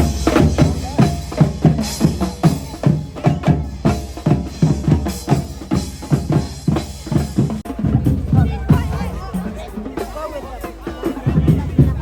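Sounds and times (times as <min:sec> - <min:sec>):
deep drum strikes: 0:00.0 - 0:12.0.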